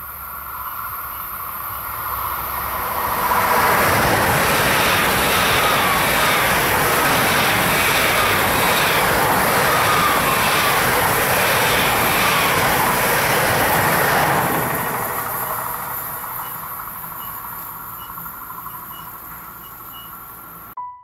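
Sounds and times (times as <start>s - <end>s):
train rolling past: 0.0s - 20.8s.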